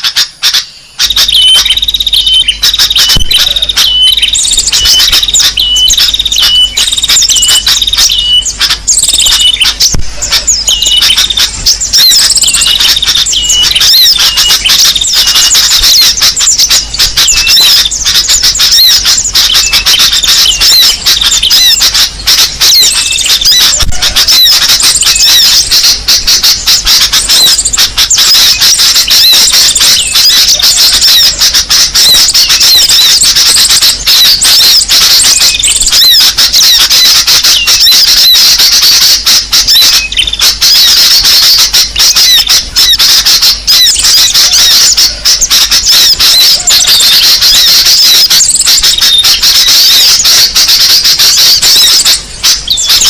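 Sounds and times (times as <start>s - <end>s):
songbirds chirping and whistling: 0.0s - 53.0s.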